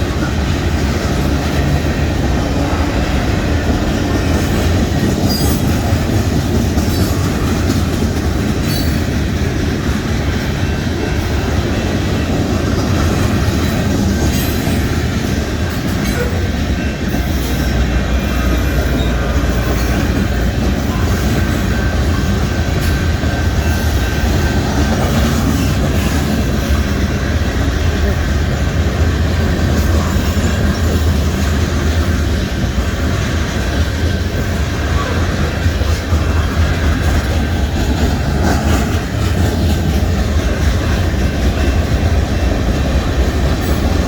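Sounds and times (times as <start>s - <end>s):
freight cars rumbling: 0.0s - 44.0s.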